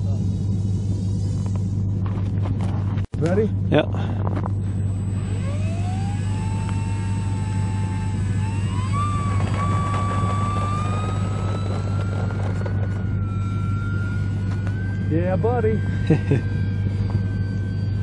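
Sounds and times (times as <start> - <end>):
model plane motor whine: 0.0 - 2.4, 4.6 - 18.0
steady low hum: 0.0 - 18.0.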